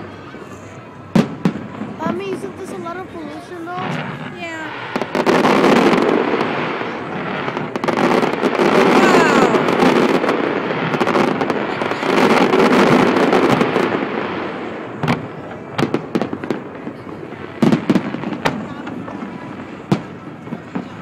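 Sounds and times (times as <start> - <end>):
sharp firework bangs: 1.1 - 2.4, 3.8 - 21.0
firecrackers crackling: 1.1 - 21.0.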